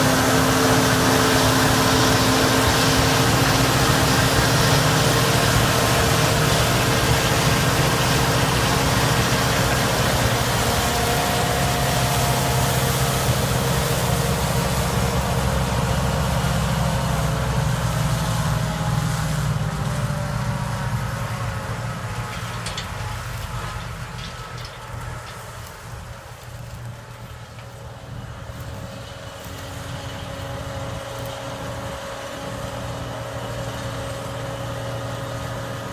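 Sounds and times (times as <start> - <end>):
combine harvester droning: 0.0 - 35.9.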